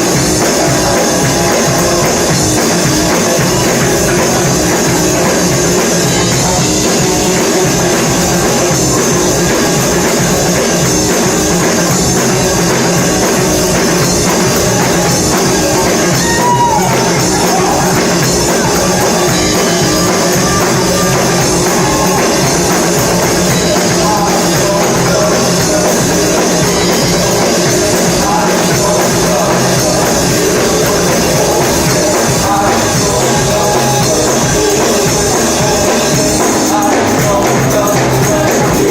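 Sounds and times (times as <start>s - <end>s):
band with drum kit playing: 0.0s - 38.9s
people singing: 0.0s - 38.9s.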